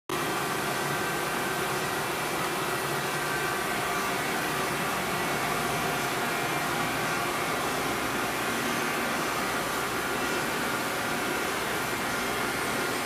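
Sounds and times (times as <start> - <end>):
grinder machine hissing and humming: 0.1 - 13.0.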